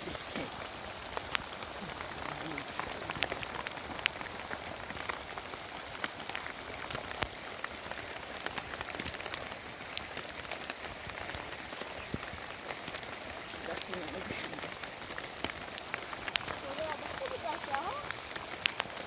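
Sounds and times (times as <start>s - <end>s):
heavy rain falling: 0.0s - 19.0s
raindrops striking a surface: 0.0s - 19.0s.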